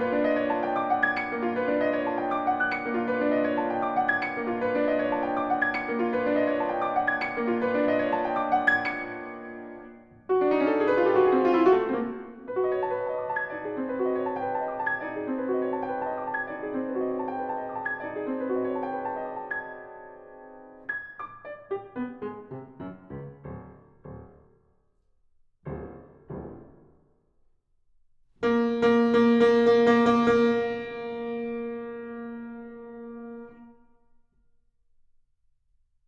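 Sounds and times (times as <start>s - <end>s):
classical piano music: 0.0s - 27.5s, 28.3s - 34.3s.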